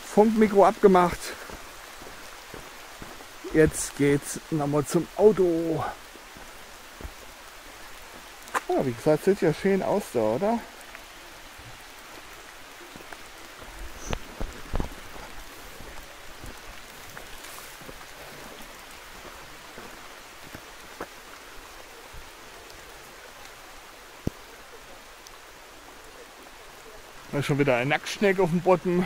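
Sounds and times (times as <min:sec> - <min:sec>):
light rain hiss: 0:00.0 - 0:29.0.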